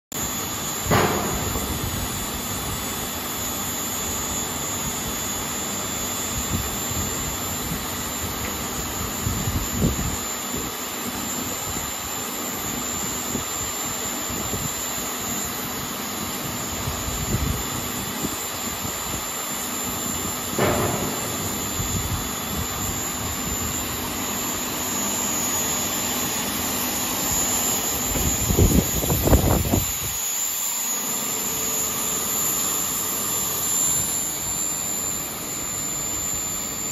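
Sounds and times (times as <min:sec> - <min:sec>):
machine blowers hissing and humming: 0:00.2 - 0:36.9.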